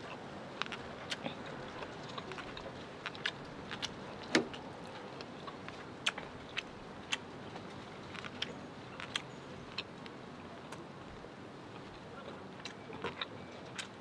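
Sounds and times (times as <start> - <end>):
chewing with mouth clicks: 0.0 - 14.0.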